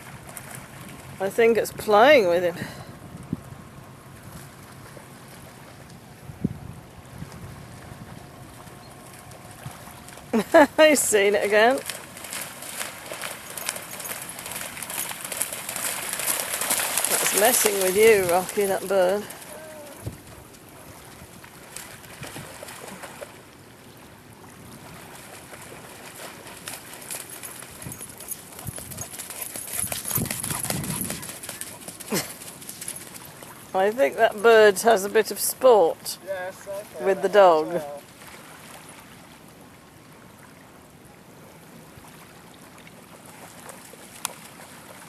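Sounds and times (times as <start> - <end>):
water lapping and trickling: 0.0 - 45.0.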